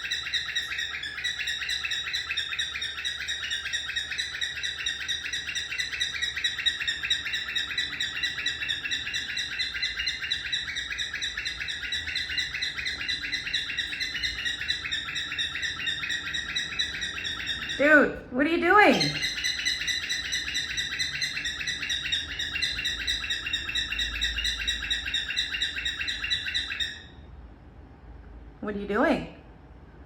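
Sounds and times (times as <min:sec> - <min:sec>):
cockatiel chirping: 0:00.0 - 0:17.8, 0:18.9 - 0:27.2.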